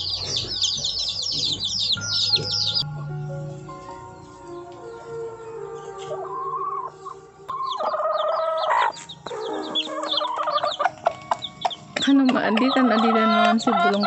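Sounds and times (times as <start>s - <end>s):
chicks peeping: 0.0s - 3.1s, 3.8s - 14.0s
hen clucking: 0.0s - 3.1s, 4.9s - 14.0s
soft background music: 0.0s - 14.0s.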